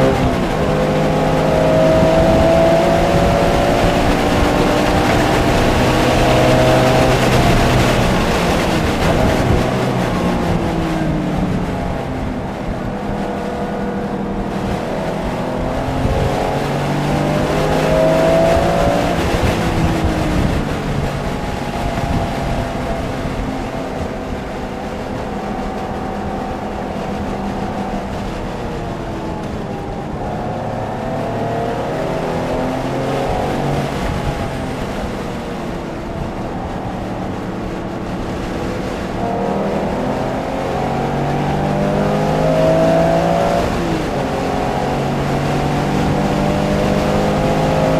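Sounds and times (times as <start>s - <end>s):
race car engine accelerating: 0.0s - 47.9s
wind noise: 0.0s - 47.9s.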